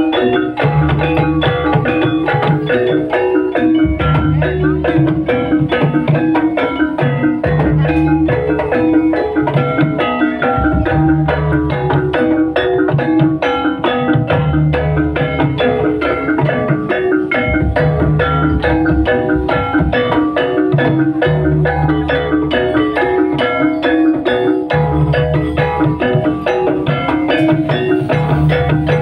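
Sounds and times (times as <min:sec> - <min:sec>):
low drum beats: 0:00.0 - 0:29.0
mallet-struck metal notes: 0:00.0 - 0:29.0.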